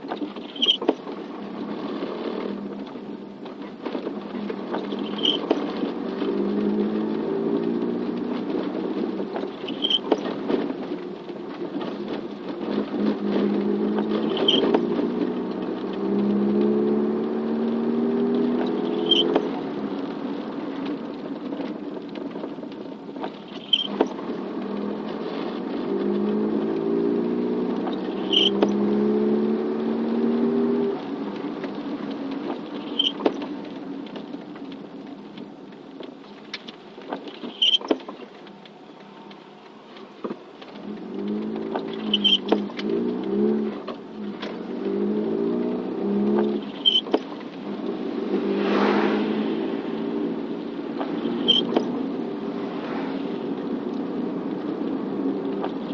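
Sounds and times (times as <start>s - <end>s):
car engine accelerating through gears: 0.0s - 38.3s, 39.0s - 55.9s.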